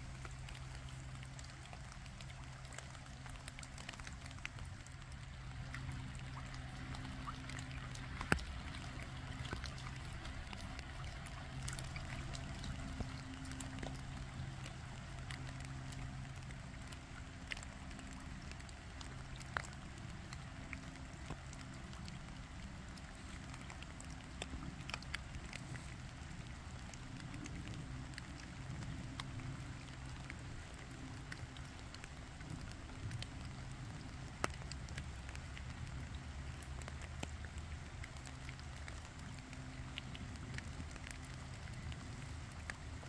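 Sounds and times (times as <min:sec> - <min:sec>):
faint low hum: 0:00.0 - 0:43.0
light rain falling: 0:00.0 - 0:43.0
raindrops ticking on water and leaves: 0:00.0 - 0:43.0.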